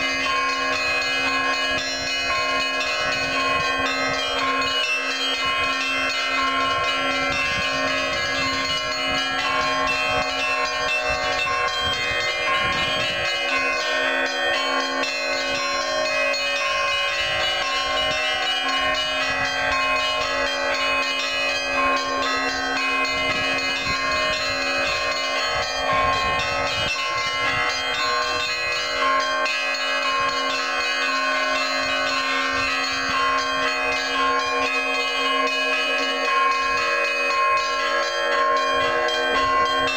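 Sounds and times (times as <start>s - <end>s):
church bells pealing: 0.0s - 39.9s
low hum of large bell: 0.0s - 39.9s.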